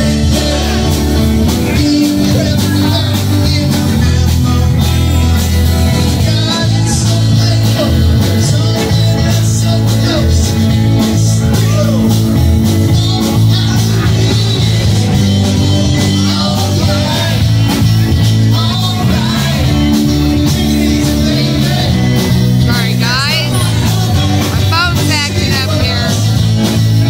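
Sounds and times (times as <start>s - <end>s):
person singing: 0.0s - 26.5s
drums: 0.0s - 27.0s
electric guitars: 0.0s - 27.0s
heavy bass line: 0.0s - 27.0s.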